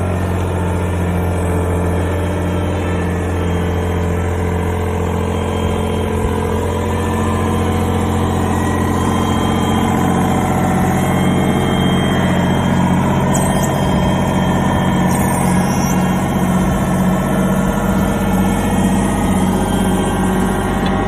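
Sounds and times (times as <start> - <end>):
mini excavator diesel engine: 0.0 - 21.0.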